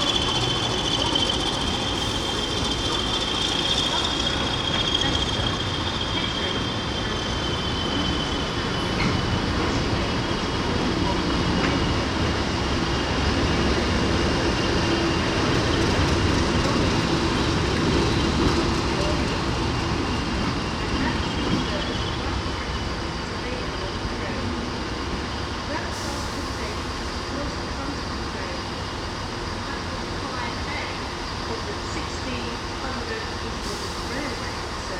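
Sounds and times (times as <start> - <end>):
diesel locomotives running: 0.0 - 34.9.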